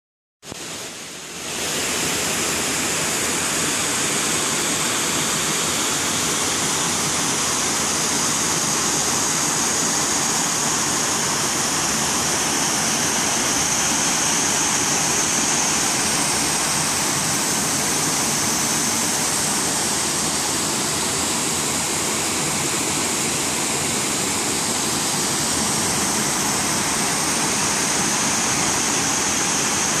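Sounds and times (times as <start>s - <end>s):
water pouring over a spillway: 0.7s - 30.0s.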